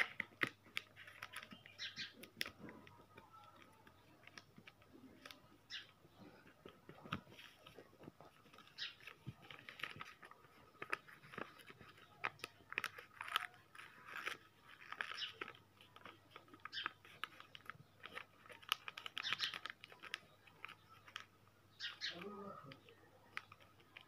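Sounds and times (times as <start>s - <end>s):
paper folds snapping: 0.0s - 5.4s, 6.8s - 21.3s
paper crinkling and rustling: 0.0s - 24.0s.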